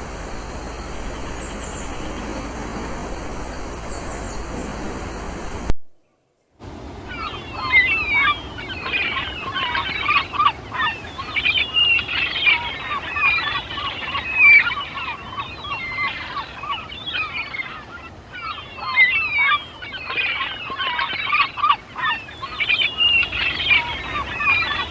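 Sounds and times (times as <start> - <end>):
many birds chirping: 0.4 - 5.2, 6.9 - 24.9.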